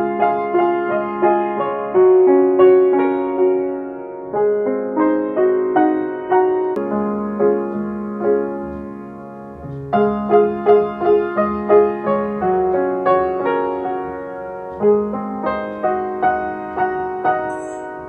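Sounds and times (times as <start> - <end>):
slow gentle piano melody: 0.0 - 18.0.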